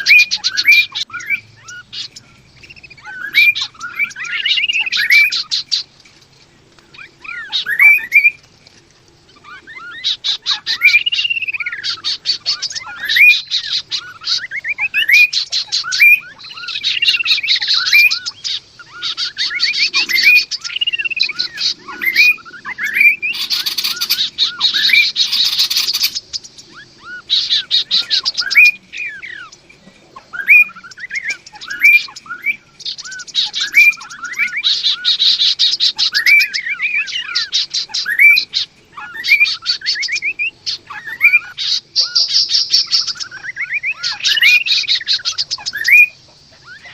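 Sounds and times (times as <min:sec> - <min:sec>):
harsh bird call: 0:00.0 - 0:05.9, 0:06.9 - 0:08.4, 0:09.4 - 0:46.9
birds singing whistles and trills: 0:00.0 - 0:46.9.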